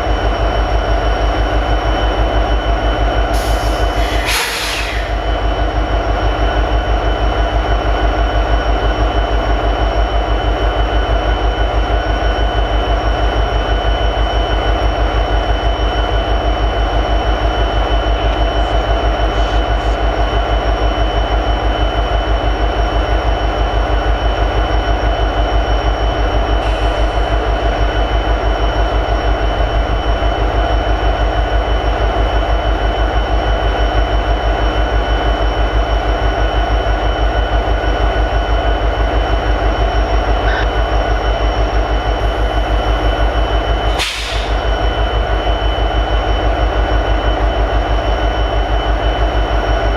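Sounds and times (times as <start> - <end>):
diesel locomotive idling: 0.0 - 49.9.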